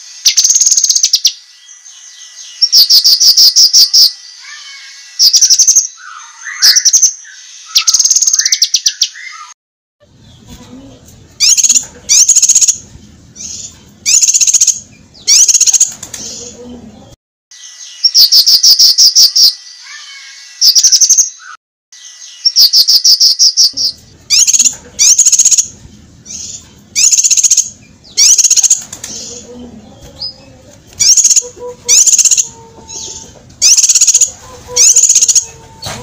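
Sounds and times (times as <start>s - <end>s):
bird chirping: 0.0s - 9.6s, 10.2s - 36.0s
bird trills: 0.3s - 9.5s, 11.4s - 16.0s, 17.5s - 29.4s, 31.0s - 36.0s.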